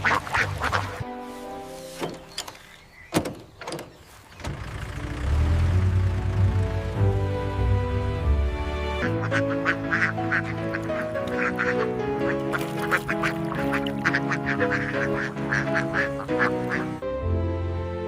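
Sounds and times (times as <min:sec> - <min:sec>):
cartoon background music: 0:00.0 - 0:02.5, 0:04.9 - 0:18.0.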